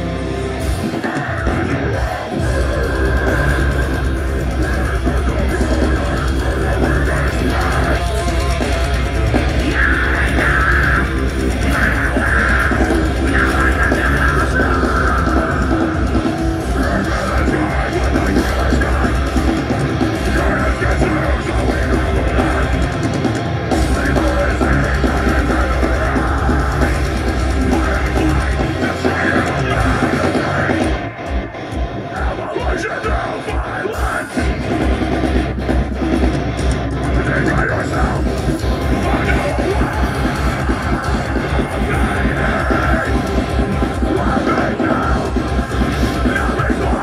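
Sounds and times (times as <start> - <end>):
drums: 0.0 - 47.0
heavy metal band playing live: 0.0 - 47.0
low guitar and bass: 0.0 - 47.0.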